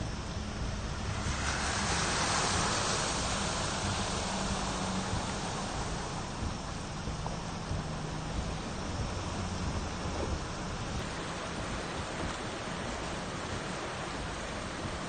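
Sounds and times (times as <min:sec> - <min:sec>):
rainstorm: 0:00.0 - 0:15.0
running floodwater: 0:00.0 - 0:15.0.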